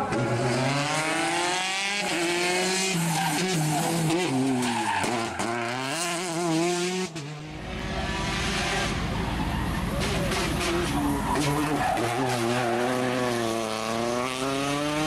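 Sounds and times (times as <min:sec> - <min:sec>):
tyres skidding on tarmac: 0:00.0 - 0:06.7, 0:07.5 - 0:15.0
rally car engine revving: 0:00.0 - 0:15.0.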